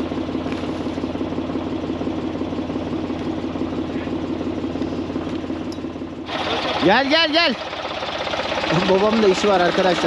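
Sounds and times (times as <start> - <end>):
tractor diesel engine idling: 0.0 - 10.0.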